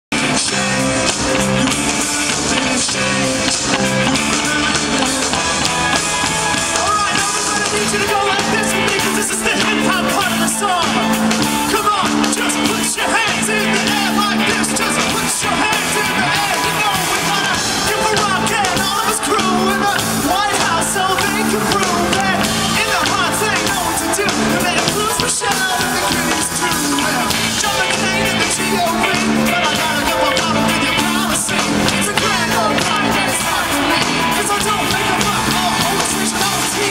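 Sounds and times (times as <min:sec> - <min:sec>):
drum kit: 0:00.1 - 0:36.9
electric guitar: 0:00.1 - 0:36.9
live rock band playing: 0:00.1 - 0:36.9
man singing: 0:00.1 - 0:36.9.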